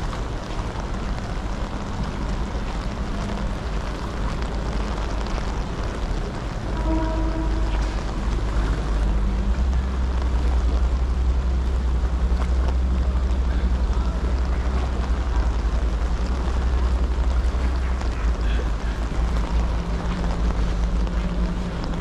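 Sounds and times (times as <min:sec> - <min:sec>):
diesel engines idling: 0:00.0 - 0:22.0
rain hiss: 0:00.0 - 0:22.0.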